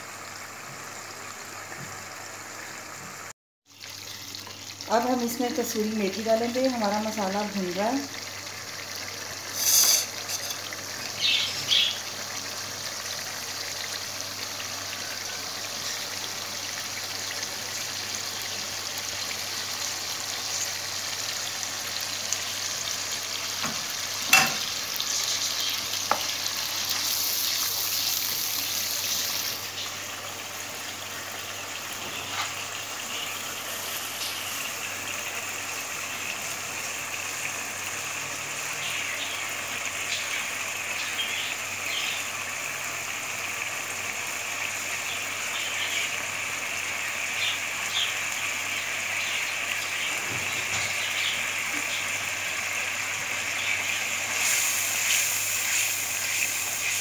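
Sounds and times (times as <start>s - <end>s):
paste sizzling in oil: 3.8s - 57.0s.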